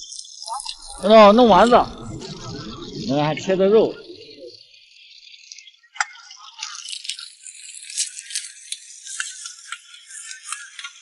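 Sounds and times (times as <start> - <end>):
food frying with crackling pops: 0.0 - 3.4, 4.2 - 11.0.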